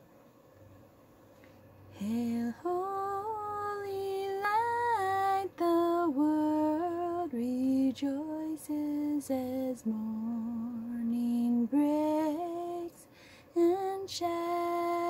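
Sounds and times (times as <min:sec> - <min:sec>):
woman singing a hymn: 0:02.0 - 0:15.0.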